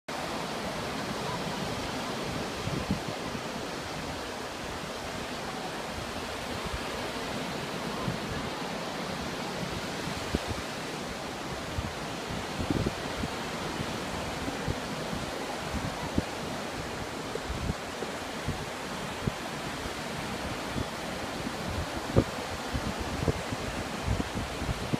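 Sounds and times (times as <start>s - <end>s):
ocean surf breaking: 0.1s - 24.9s.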